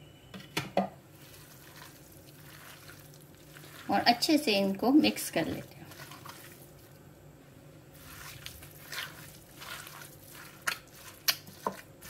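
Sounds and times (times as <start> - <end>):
wet squishing of meat kneaded: 1.1 - 7.1, 7.9 - 12.0.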